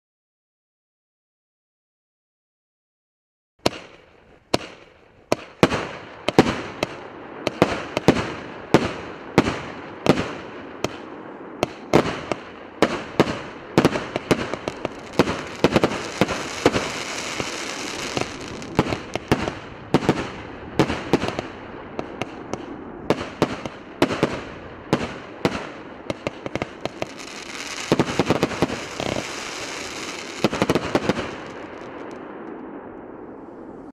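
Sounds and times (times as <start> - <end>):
fireworks crackling: 3.6 - 33.1
fireworks bangs: 3.6 - 33.4.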